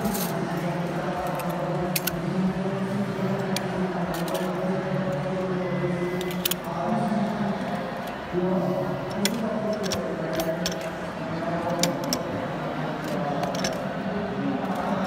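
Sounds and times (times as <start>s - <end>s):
crowd chatter: 0.0s - 15.0s.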